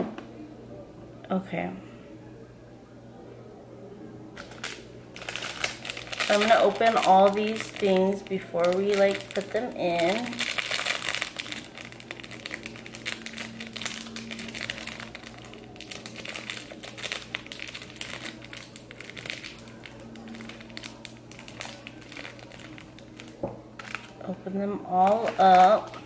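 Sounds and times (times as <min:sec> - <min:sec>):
plastic packaging crinkling: 0:04.4 - 0:24.2, 0:24.9 - 0:26.0.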